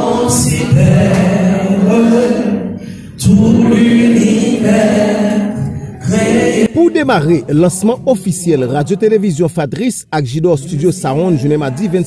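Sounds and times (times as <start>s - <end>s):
congregation singing unaccompanied: 0.0s - 12.0s.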